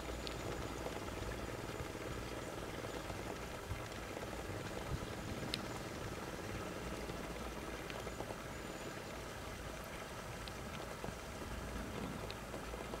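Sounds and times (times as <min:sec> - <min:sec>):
faint high ticks: 0:00.0 - 0:09.3, 0:10.0 - 0:13.0
outdoor background hiss: 0:00.0 - 0:13.0.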